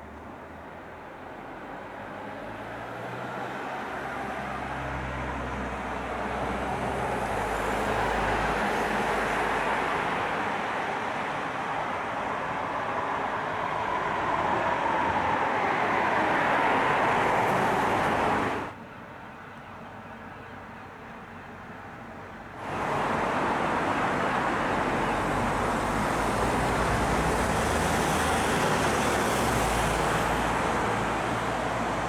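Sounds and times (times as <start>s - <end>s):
vehicle engine and tyre noise: 0.0s - 19.0s, 21.6s - 32.0s.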